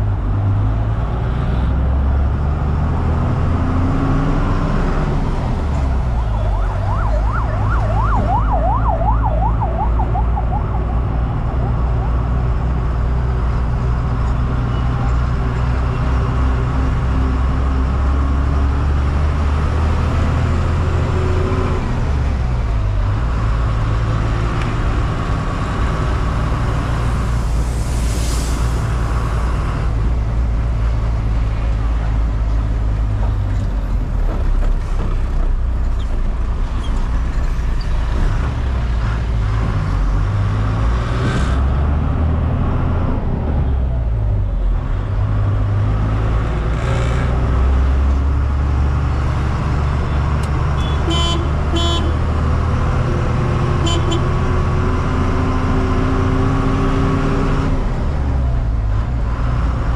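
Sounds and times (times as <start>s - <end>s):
truck diesel engine droning: 0.0s - 59.9s.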